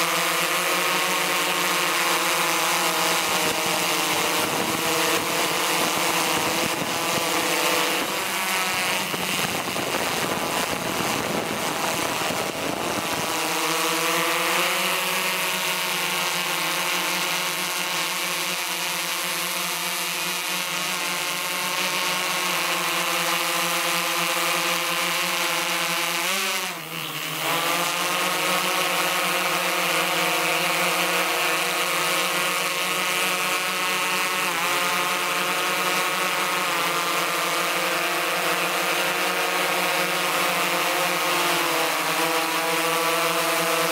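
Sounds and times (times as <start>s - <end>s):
drone rotors humming: 0.0s - 43.9s.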